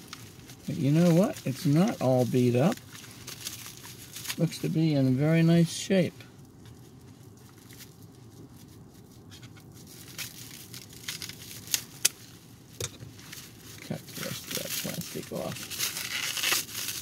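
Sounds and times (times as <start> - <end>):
plastic crackles: 0.0 - 17.0
plastic wrapping crinkling: 0.0 - 17.0.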